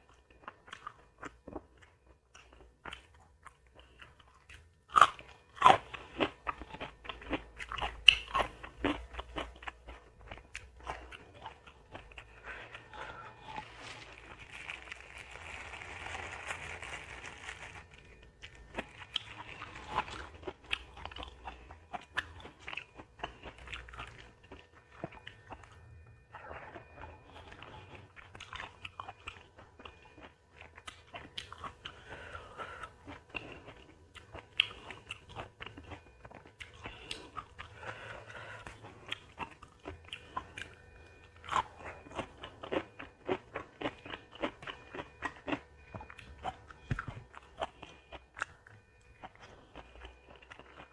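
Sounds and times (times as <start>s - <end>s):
crunchy biting and chewing: 0.0s - 50.9s.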